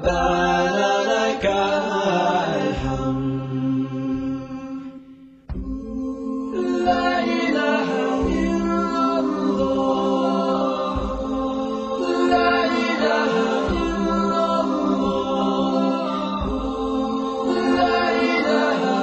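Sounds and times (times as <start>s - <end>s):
low vocal drone: 0.0s - 19.0s
voices singing together: 0.0s - 19.0s.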